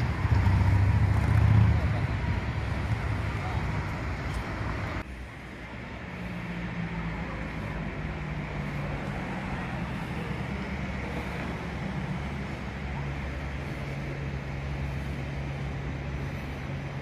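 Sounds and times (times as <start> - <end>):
train low hum: 0.0 - 17.0.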